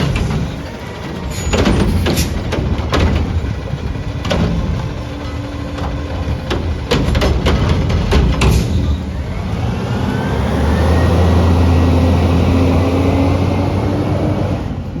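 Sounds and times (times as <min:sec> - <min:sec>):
garbage truck engine droning: 0:00.0 - 0:15.0.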